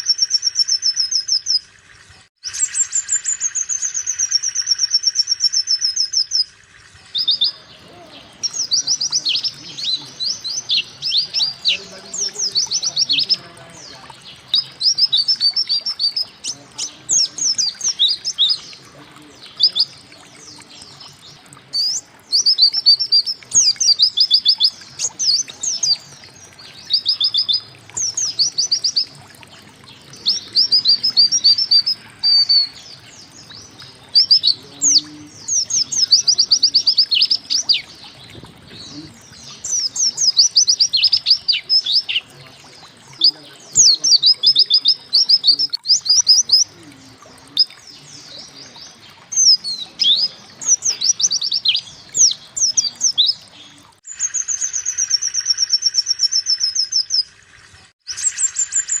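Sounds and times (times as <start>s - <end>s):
bird singing rapid high notes: 2.4s - 46.8s, 47.4s - 57.3s.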